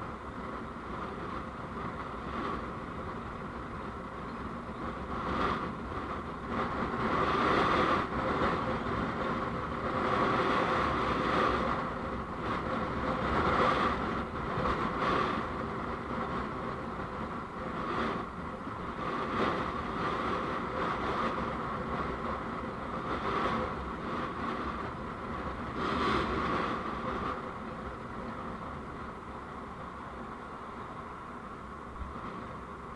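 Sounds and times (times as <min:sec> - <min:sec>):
road and traffic noise: 0:00.0 - 0:32.9.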